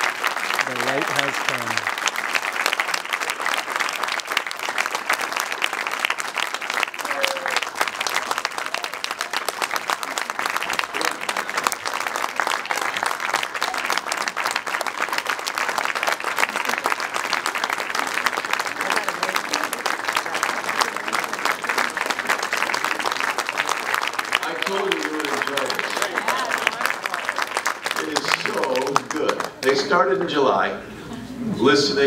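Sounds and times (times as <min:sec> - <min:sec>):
audience applauding: 0:00.0 - 0:30.2.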